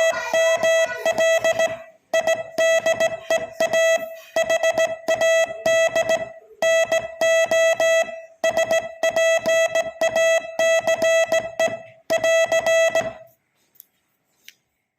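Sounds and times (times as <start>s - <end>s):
morse code beeps: 0.0s - 13.3s.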